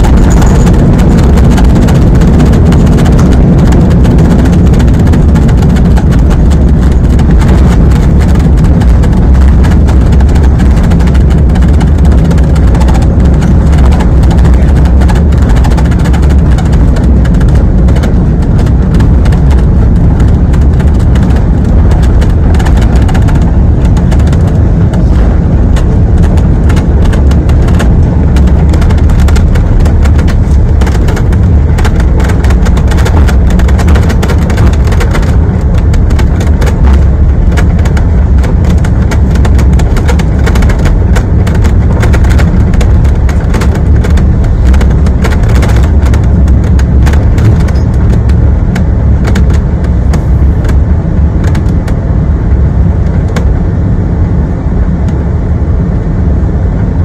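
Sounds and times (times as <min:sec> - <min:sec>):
airliner wheels and engines rumbling: 0:00.0 - 0:57.0.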